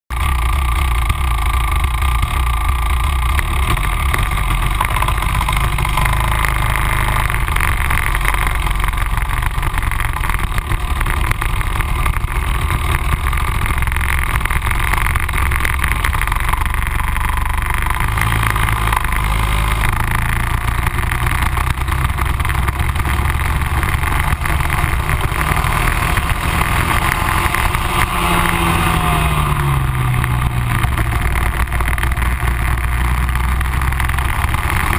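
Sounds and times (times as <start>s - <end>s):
kart engine running: 0.1s - 34.9s.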